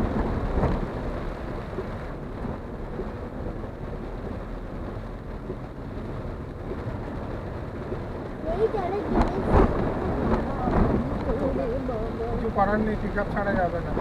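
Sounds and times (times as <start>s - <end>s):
rain on car body: 0.0s - 14.0s.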